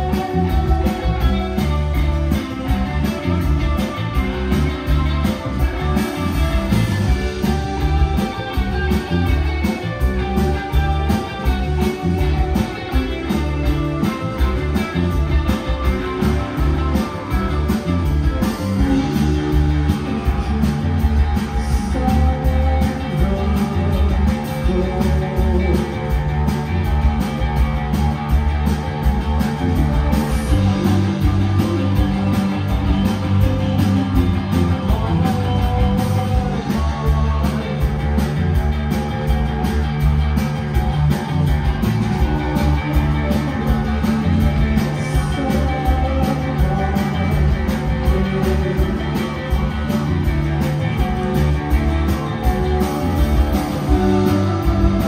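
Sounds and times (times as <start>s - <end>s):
drum kit beat: 0.0s - 55.0s
electric bass: 0.0s - 55.0s
electric guitar: 0.0s - 55.0s
keyboard: 0.0s - 55.0s.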